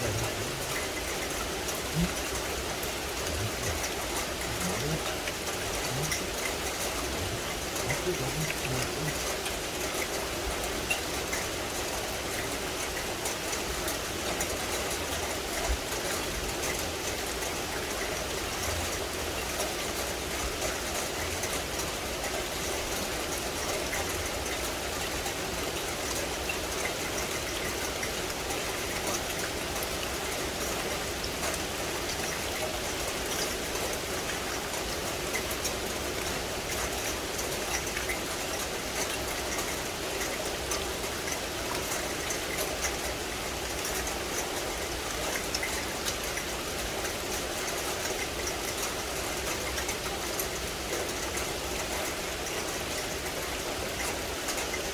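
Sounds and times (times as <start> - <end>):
rain falling on forest: 0.0 - 54.9.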